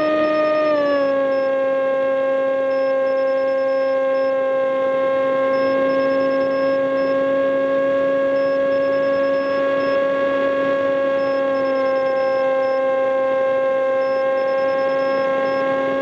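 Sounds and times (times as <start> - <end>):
model plane motor drone: 0.0 - 2.9, 3.8 - 16.0.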